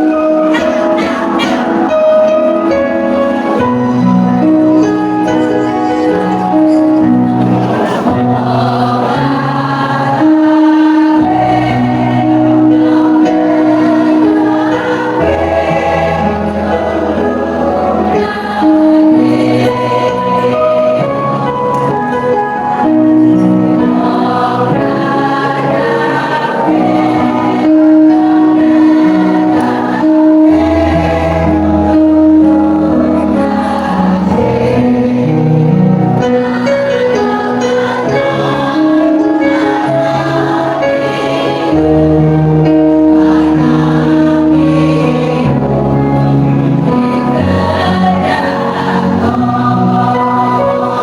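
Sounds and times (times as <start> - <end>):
choir singing held notes: 0.0 - 51.0.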